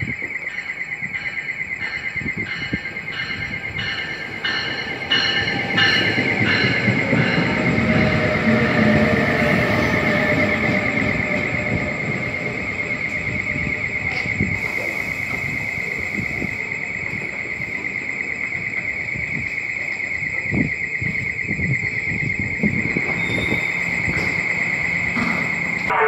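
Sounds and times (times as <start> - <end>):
train clunks: 0.0 - 26.0
train wheels rumbling over rails: 0.0 - 26.0.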